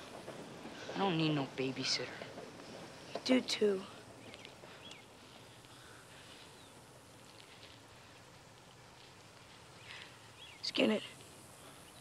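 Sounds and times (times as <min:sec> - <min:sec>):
faint outdoor field ambience: 0:00.0 - 0:12.0.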